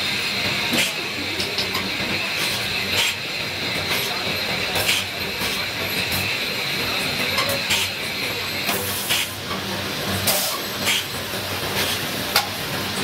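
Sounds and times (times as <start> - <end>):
lathe running with hiss and hum: 0.0 - 13.0.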